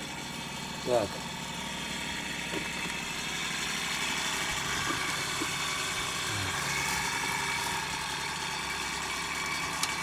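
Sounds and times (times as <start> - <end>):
engine-like hum: 0.0 - 10.0.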